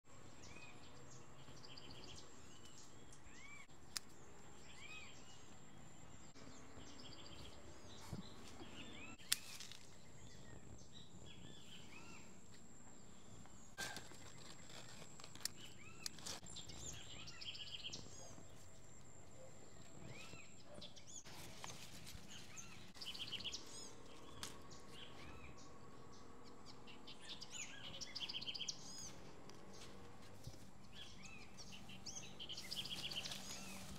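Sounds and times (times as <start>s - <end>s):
birds chirping: 0.2s - 33.9s.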